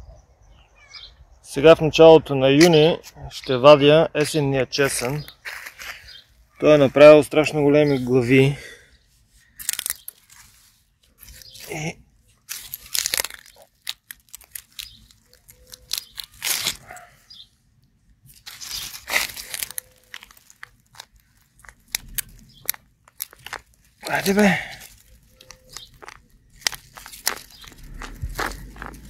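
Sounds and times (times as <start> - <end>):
mulch and leaves crunching: 4.2 - 29.0.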